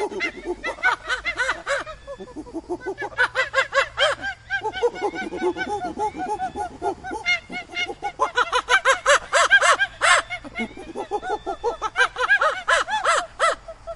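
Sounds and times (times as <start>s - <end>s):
monkey chattering: 0.0s - 13.9s.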